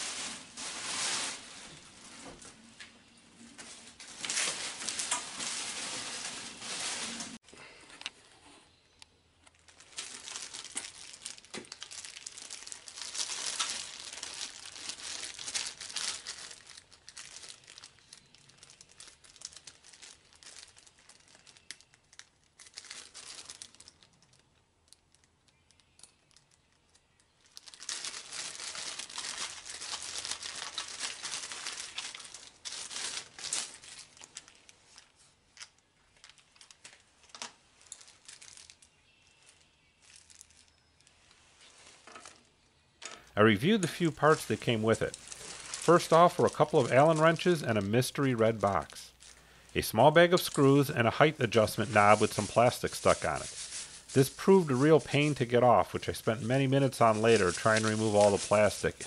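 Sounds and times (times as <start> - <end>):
packing material crinkling and tearing: 0.0 - 2.7, 3.4 - 7.4, 9.4 - 42.5, 43.1 - 59.0.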